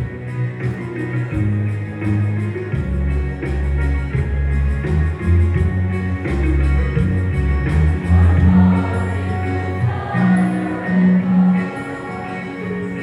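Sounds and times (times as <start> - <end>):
instrumental music with guitar and bass: 0.0 - 13.0.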